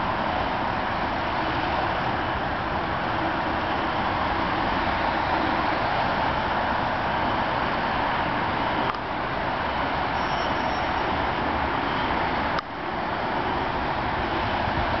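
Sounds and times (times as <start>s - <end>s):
vehicle and road noise roar: 0.0s - 15.0s.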